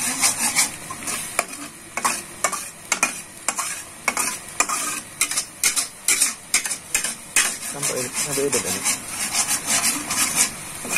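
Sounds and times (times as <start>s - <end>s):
paste sizzling: 0.0s - 10.9s
spatula scraping wok: 0.0s - 10.9s.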